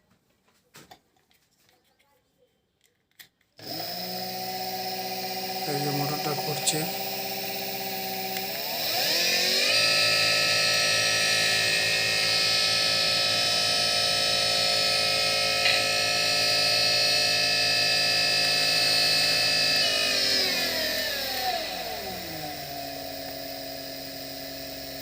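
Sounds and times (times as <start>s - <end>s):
electric motor whine: 3.6s - 25.0s.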